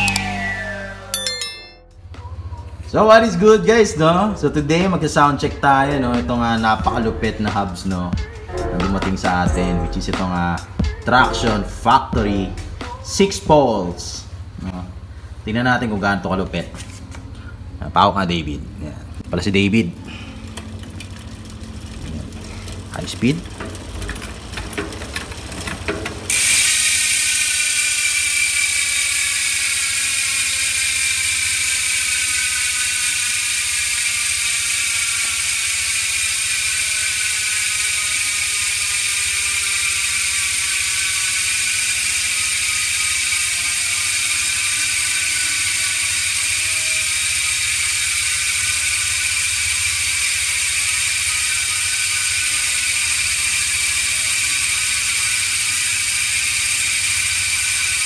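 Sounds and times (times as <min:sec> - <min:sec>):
bicycle freehub clicking buzz: 0:00.0 - 0:02.6, 0:03.2 - 0:13.4, 0:16.8 - 0:58.0.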